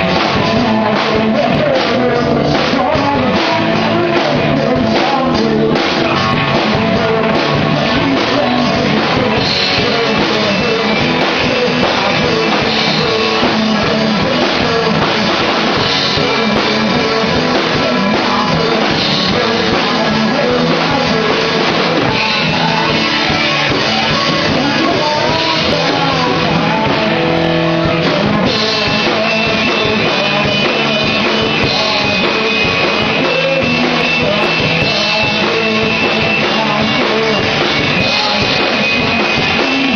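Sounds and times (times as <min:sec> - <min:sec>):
drums: 0:00.0 - 0:39.9
guitar: 0:00.0 - 0:39.9
person singing: 0:00.0 - 0:39.9.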